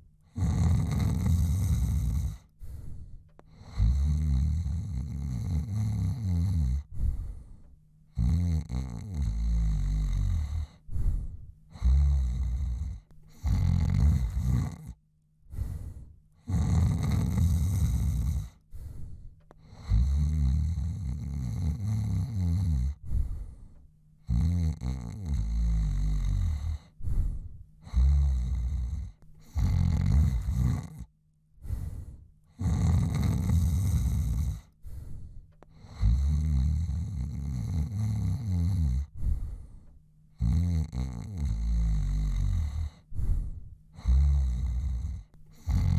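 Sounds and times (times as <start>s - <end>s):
man snoring: 0.2s - 7.5s, 8.1s - 23.6s, 24.2s - 45.9s.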